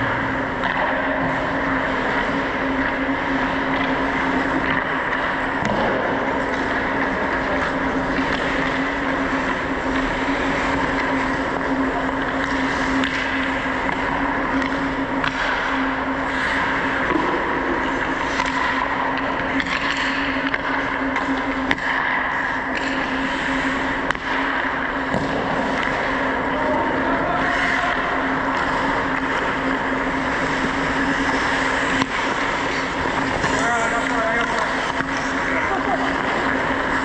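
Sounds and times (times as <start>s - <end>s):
skates scraping on ice: 0.0s - 37.0s
steady hum: 0.0s - 37.0s
stick hitting puck: 0.6s - 1.4s, 2.8s - 15.7s, 16.5s - 23.2s, 23.9s - 37.0s.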